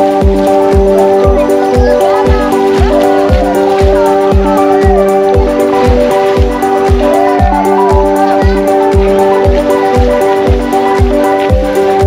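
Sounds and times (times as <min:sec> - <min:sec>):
synth chords: 0:00.0 - 0:12.0
wavering melody line: 0:00.0 - 0:12.0.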